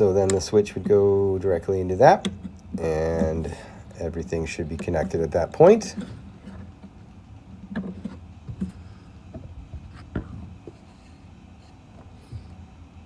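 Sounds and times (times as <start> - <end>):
light handling clicks and rubs: 0.0 - 12.8
low steady hum: 0.0 - 13.0.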